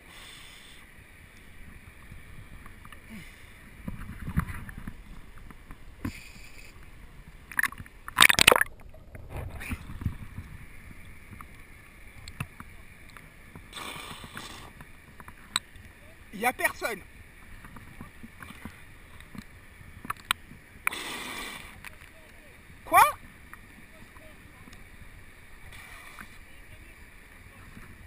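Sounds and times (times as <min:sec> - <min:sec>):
water lapping and sloshing: 0:01.2 - 0:28.0.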